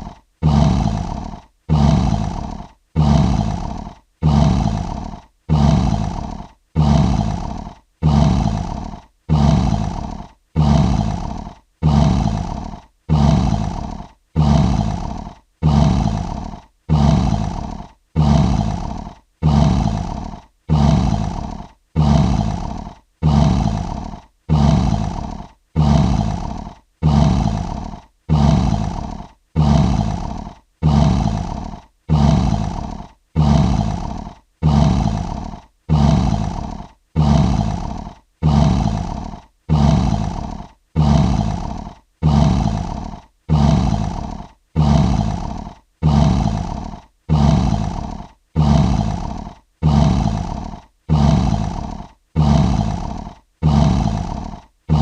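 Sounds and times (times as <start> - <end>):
lion roaring: 0.0 - 55.0.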